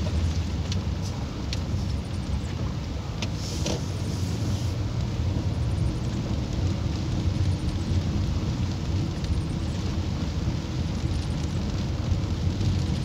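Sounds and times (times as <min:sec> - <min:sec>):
rain tapping on glass: 0:00.0 - 0:03.9, 0:04.9 - 0:13.0
car driving on wet road: 0:00.0 - 0:13.0.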